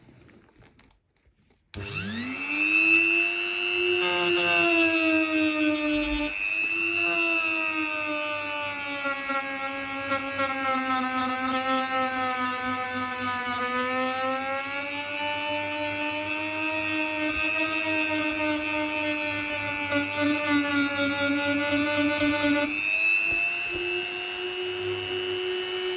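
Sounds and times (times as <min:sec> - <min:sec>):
power tool whining: 0:01.8 - 0:25.9.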